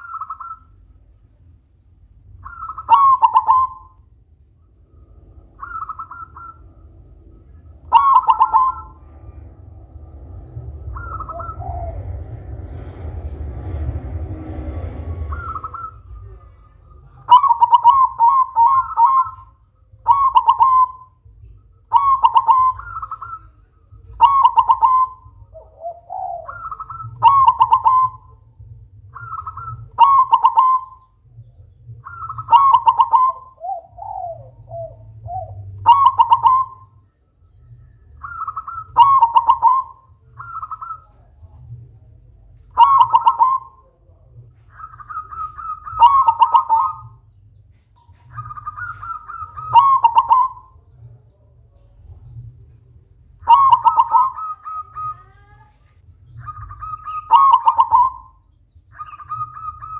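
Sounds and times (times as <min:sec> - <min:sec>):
dove cooing: 0:00.0 - 0:00.8, 0:02.4 - 0:04.0, 0:05.5 - 0:06.9, 0:07.8 - 0:09.0, 0:10.5 - 0:12.8, 0:14.8 - 0:37.0, 0:37.6 - 0:41.6, 0:42.7 - 0:47.4, 0:48.0 - 0:52.4, 0:53.4 - 0:59.9.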